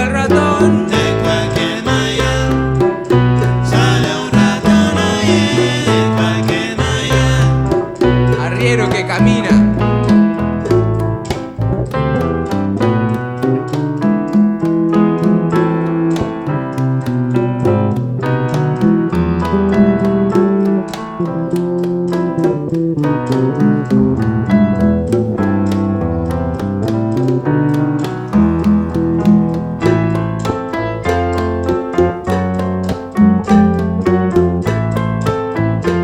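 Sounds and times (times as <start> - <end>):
bass line: 0.0 - 36.0
percussion strikes: 0.0 - 36.0
salsa band piano: 0.0 - 36.0.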